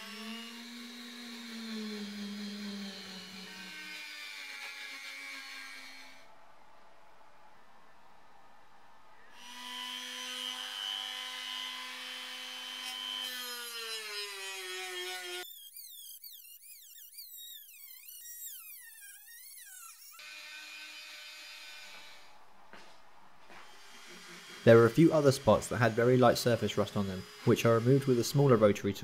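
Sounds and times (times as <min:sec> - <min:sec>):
rotary tool motor whine: 0:00.0 - 0:06.2, 0:09.4 - 0:22.4, 0:23.6 - 0:29.0.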